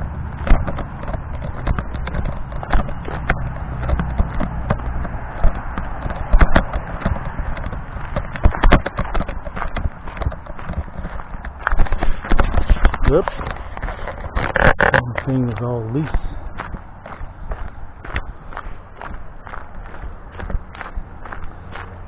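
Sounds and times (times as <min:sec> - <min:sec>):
footsteps on a path: 0:00.0 - 0:22.0
steady low rumble: 0:00.0 - 0:22.0.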